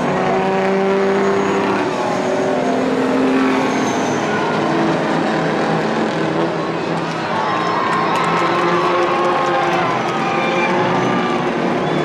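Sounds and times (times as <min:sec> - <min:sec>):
race truck engines running: 0:00.0 - 0:12.0.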